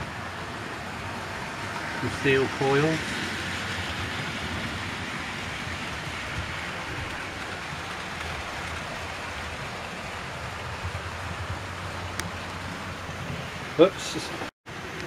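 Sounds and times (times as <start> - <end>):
model trains rumbling on rails: 0.0 - 15.0.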